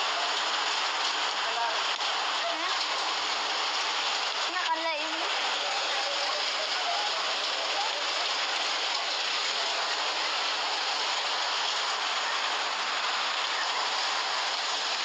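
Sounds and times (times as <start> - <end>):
flood torrent rushing: 0.0 - 15.0
heavy rain: 0.0 - 15.0.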